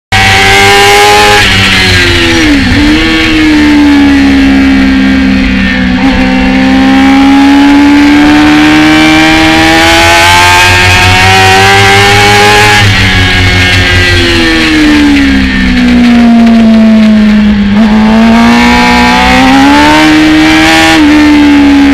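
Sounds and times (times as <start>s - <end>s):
motorcycle engine revving: 0.1s - 21.9s.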